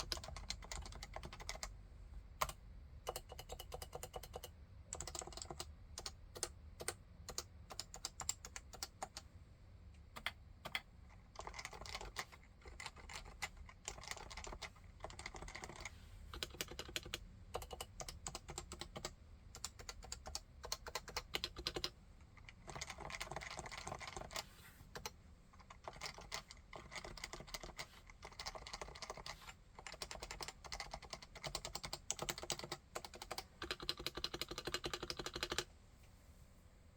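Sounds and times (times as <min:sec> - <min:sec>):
keyboard typing: 0:00.0 - 0:01.8, 0:02.4 - 0:09.3, 0:10.1 - 0:35.7.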